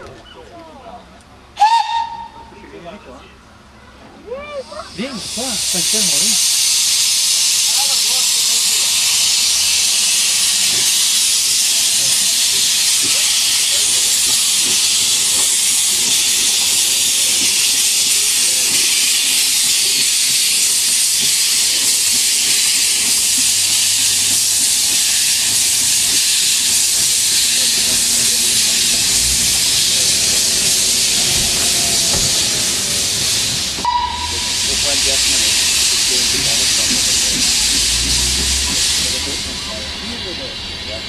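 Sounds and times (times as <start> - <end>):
steam hissing from locomotive: 4.5 - 41.0.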